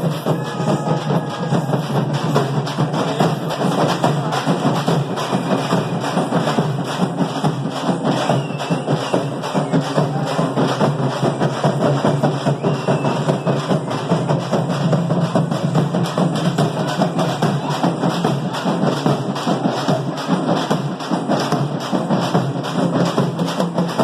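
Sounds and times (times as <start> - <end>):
drum-led percussion music: 0.0 - 24.0.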